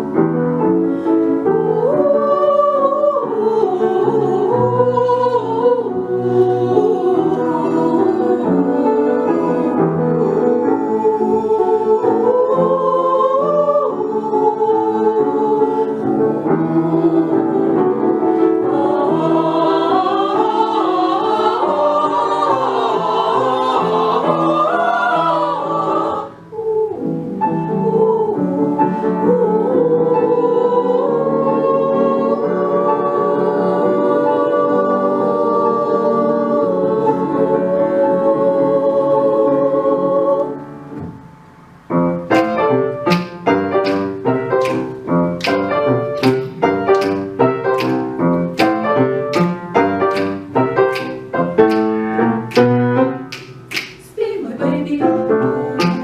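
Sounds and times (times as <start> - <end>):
piano accompaniment: 0.0 - 56.0
children singing: 1.4 - 40.8, 42.3 - 53.5, 54.2 - 56.0.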